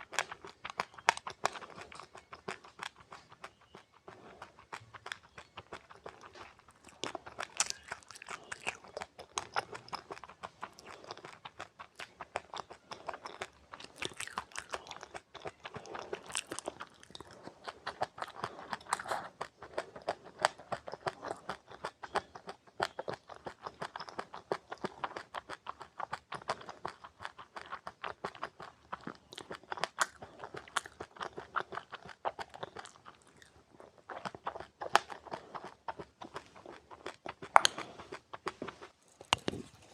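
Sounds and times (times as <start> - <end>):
person chewing crunchy seeds: 0.0 - 39.9.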